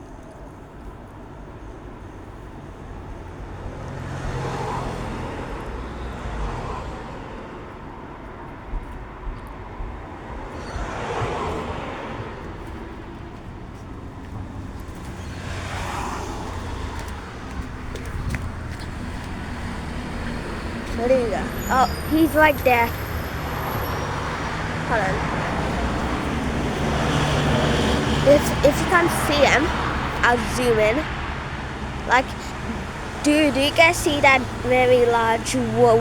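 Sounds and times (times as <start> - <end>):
low traffic rumble: 0.0 - 36.0
cars passing: 2.6 - 36.0.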